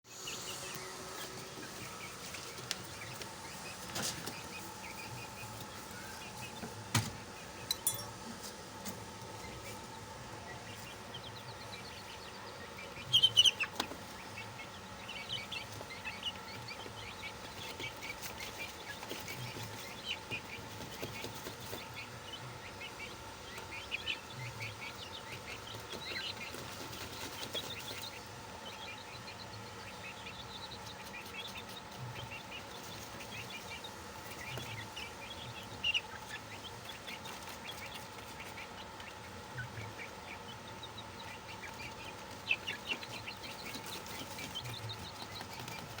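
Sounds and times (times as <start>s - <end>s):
chicks peeping: 0.1s - 46.0s.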